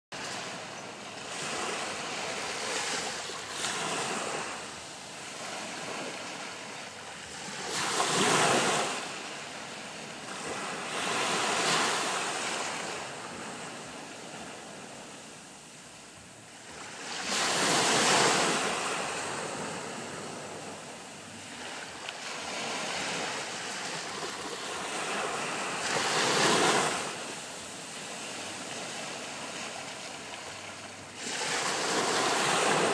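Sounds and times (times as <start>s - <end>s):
small waves breaking on sand: 0.2s - 32.9s.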